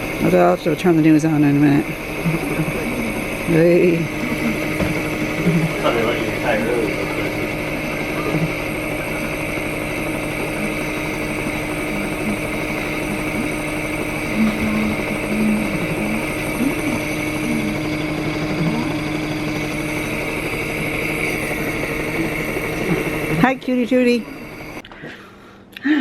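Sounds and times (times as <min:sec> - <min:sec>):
machine hum with high whine: 0:00.0 - 0:26.0.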